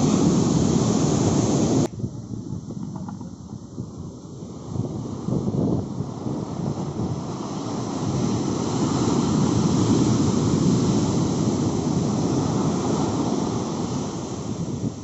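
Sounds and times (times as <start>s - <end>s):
foam rushing up sand: 0.0s - 1.9s, 4.3s - 15.0s.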